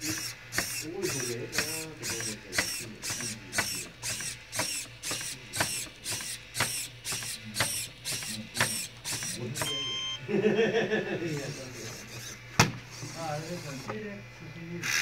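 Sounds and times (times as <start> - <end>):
small servo motors whirring: 0.0 - 10.0, 11.1 - 15.0.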